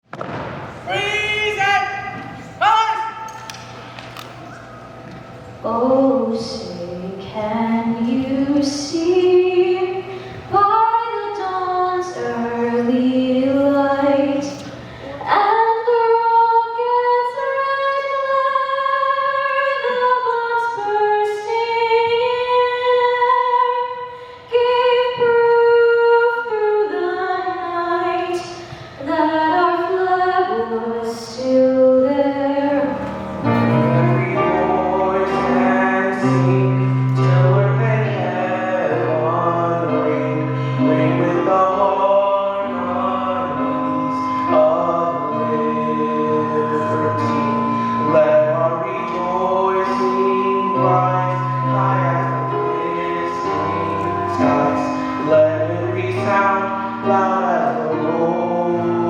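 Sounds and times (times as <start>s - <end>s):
woman singing: 5.6s - 59.0s.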